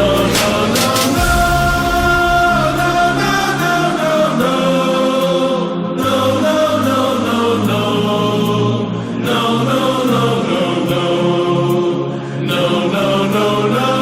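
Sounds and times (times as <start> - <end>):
choir-like voices holding chords: 0.0 - 14.0.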